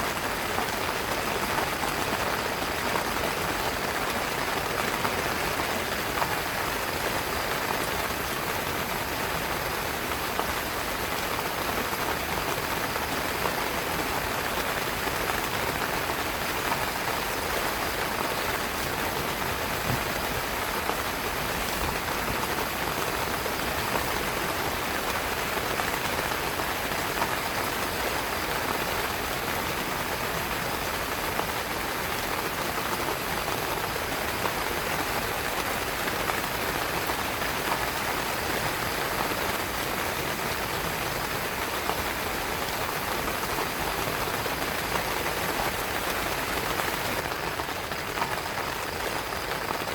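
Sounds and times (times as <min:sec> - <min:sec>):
heavy rain on a tent: 0:00.0 - 0:49.9.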